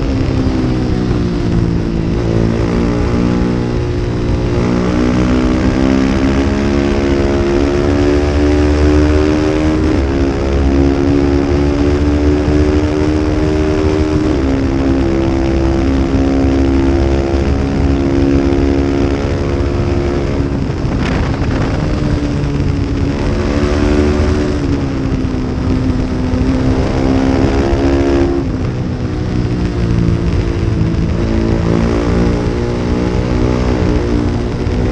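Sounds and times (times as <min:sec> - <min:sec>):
racing motorcycle engine revving: 0:00.0 - 0:34.9.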